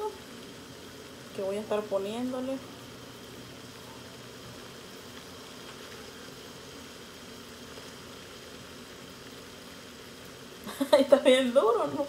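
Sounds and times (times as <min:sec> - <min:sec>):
sausage sizzling in a frying pan: 0:00.0 - 0:12.0.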